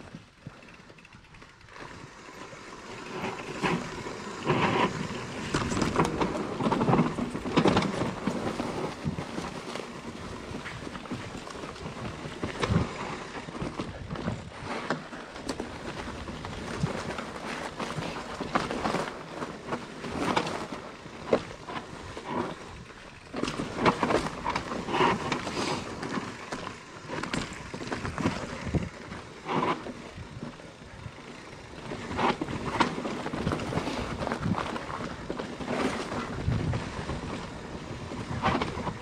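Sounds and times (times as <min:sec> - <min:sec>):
bike frame and chain rattling: 0:00.0 - 0:39.0
bike tyres rolling over rock: 0:00.0 - 0:39.0.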